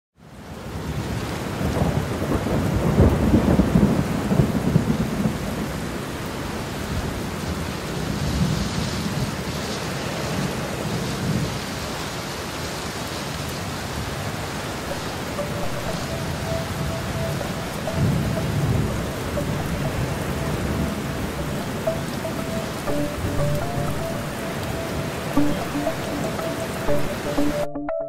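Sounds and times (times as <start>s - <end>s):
heavy rain: 0.3s - 27.7s.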